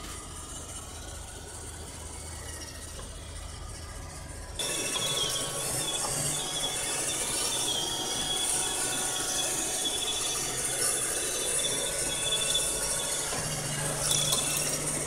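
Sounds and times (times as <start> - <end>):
robot vacuum running: 0.0 - 15.0
wavering high squeal: 0.0 - 15.0.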